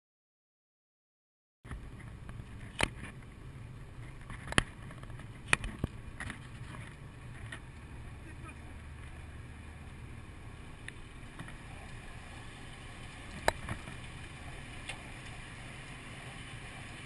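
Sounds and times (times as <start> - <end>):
car engine and road noise: 1.7 - 17.0.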